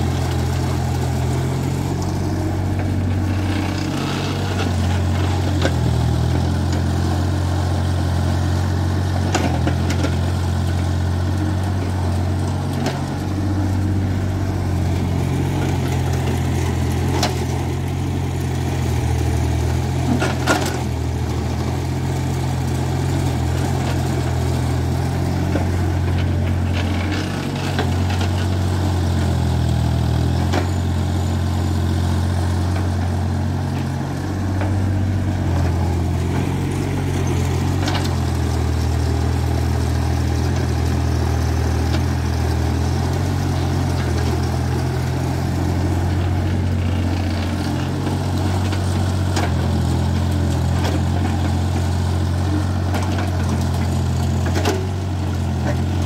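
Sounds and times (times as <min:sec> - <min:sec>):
heavy machine diesel engine running: 0:00.0 - 0:56.0.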